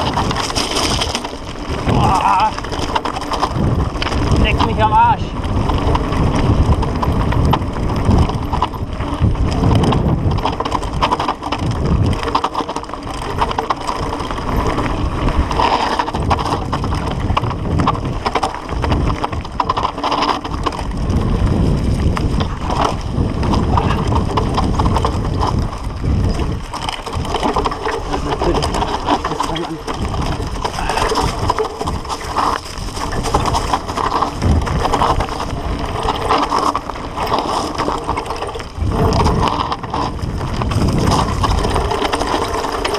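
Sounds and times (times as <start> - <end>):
bike rattling over bumps: 0.0 - 42.9
bike tyres crunching on gravel: 0.0 - 42.9.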